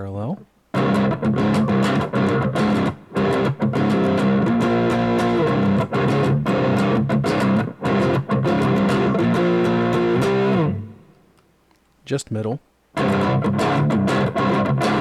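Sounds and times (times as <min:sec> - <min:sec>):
overdriven electric guitar riff: 0:00.7 - 0:11.2, 0:13.0 - 0:15.0.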